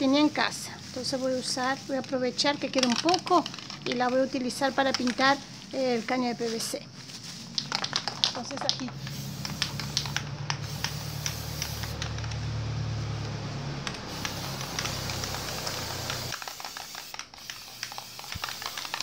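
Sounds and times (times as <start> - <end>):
spray paint can hissing: 0.0 - 12.4, 13.8 - 19.0.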